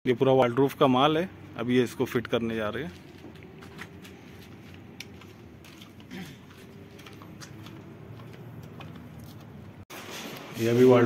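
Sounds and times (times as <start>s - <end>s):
faint outdoor rumble: 0.1s - 9.8s.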